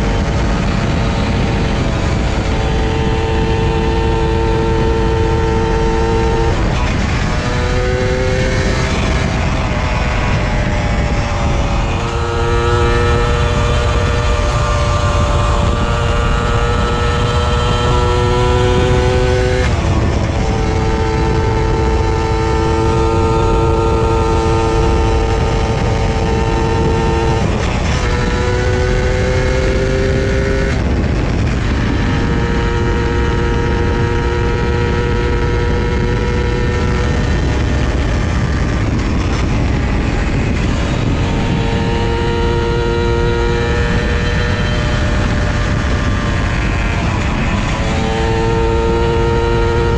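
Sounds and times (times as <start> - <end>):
low wind rumble: 0.0 - 49.9
two-stroke motorcycle engine running: 0.0 - 49.9.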